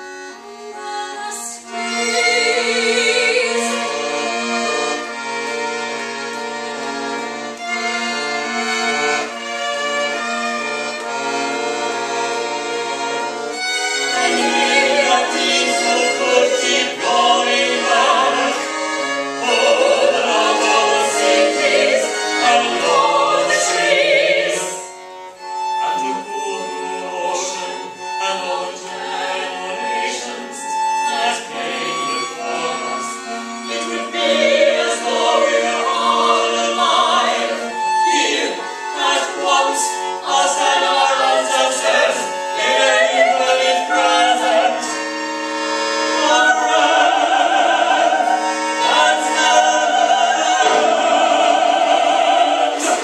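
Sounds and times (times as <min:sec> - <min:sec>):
violin cello and accordion: 0:00.0 - 0:53.0
opera singers: 0:00.4 - 0:05.1, 0:14.0 - 0:25.0, 0:25.7 - 0:53.0.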